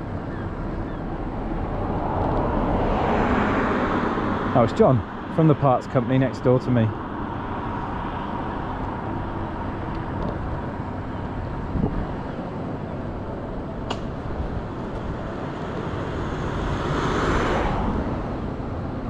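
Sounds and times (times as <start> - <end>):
van passing: 0.0 - 19.0
wind and road noise rumble: 0.0 - 19.0.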